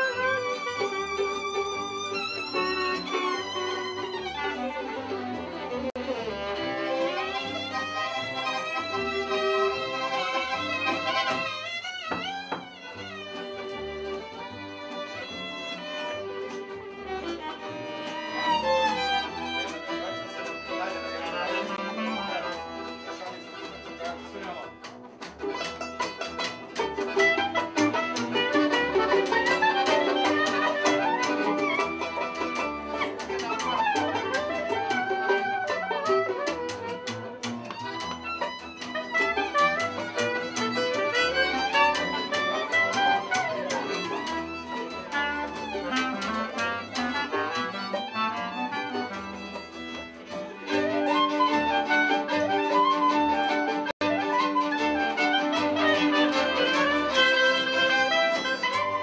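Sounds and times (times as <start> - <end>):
accompanying violins: 0.0 - 59.0
accordion: 0.0 - 59.0
double bass: 0.0 - 59.0
lead violin fast runs: 0.0 - 59.0.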